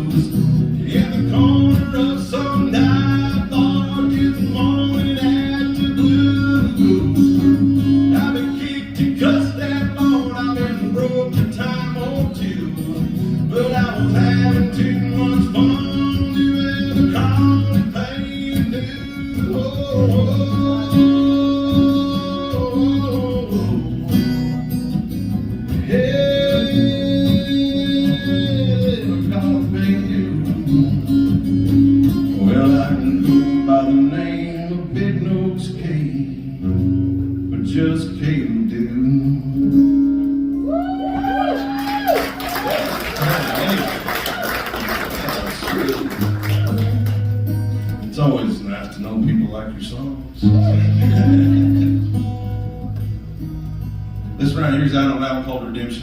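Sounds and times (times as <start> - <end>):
acoustic guitar: 0.0 - 56.0
live country music: 0.0 - 56.0.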